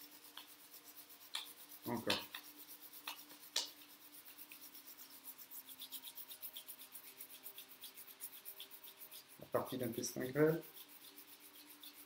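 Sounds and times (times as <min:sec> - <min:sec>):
hands rubbing together: 0:00.0 - 0:12.0.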